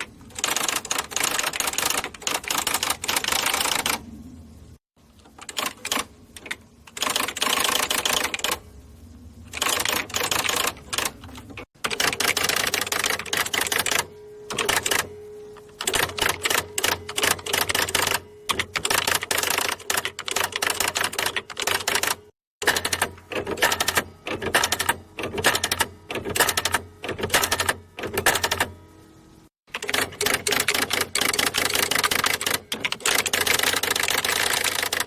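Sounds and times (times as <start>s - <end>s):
typewriter keystrokes: 0.0s - 4.0s, 5.2s - 8.6s, 9.5s - 15.1s, 15.7s - 28.8s, 29.7s - 35.0s
typewriter motor humming: 0.0s - 4.1s, 5.2s - 8.7s, 9.4s - 28.8s, 29.7s - 35.0s.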